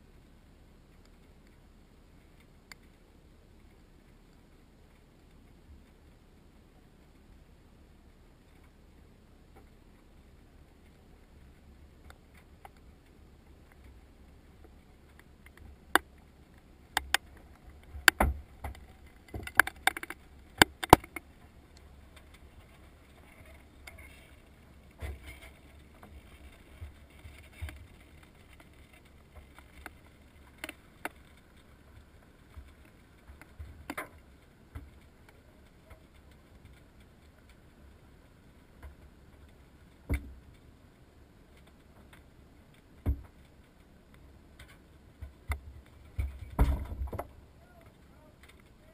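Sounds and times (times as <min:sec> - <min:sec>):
low steady rumble: 0:00.0 - 0:48.9
fire cracking and popping: 0:09.5 - 0:48.9.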